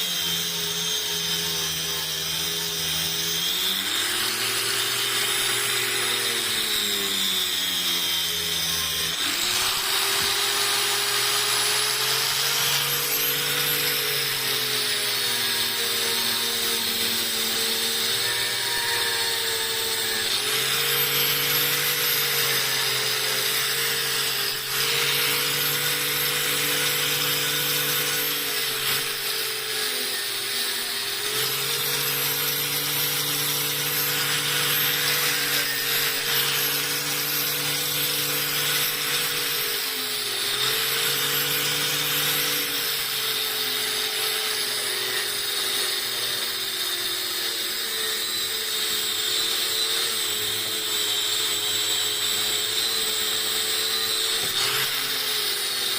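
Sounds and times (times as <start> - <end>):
electric power tool motor: 0.0 - 55.9.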